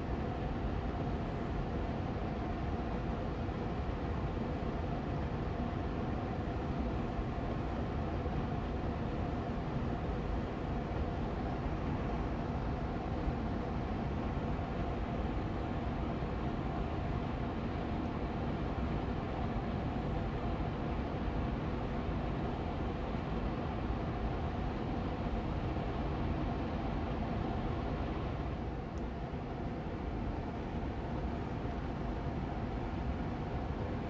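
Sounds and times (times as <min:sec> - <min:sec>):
air purifier fan humming: 0:00.0 - 0:34.0.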